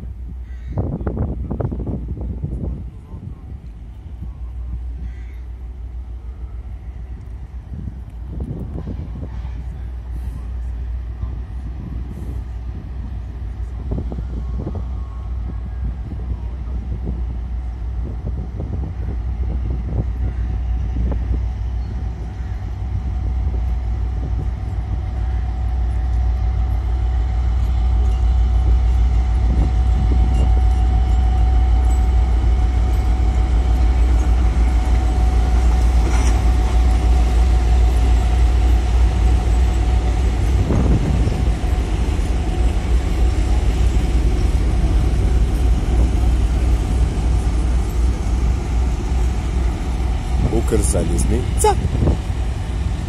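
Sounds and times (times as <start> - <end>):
diesel locomotive rumble: 0.0 - 53.0.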